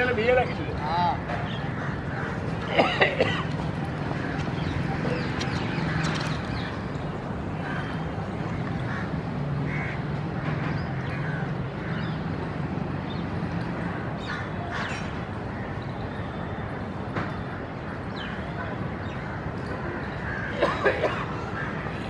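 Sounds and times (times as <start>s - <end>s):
birds calling: 0.0s - 22.0s
outdoor background noise: 0.0s - 22.0s.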